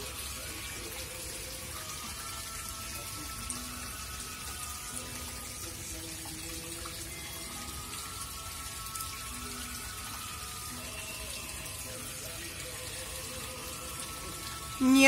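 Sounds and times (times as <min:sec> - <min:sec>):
faint music: 0:00.0 - 0:15.0
fountain water splashing: 0:00.0 - 0:15.0.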